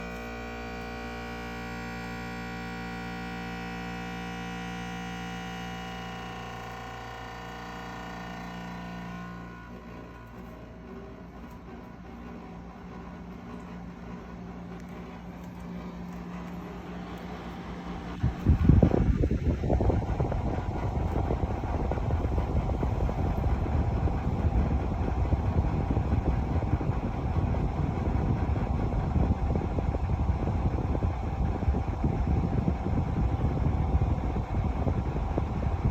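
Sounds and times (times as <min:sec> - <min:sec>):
appliance droning hum: 0:00.0 - 0:35.9.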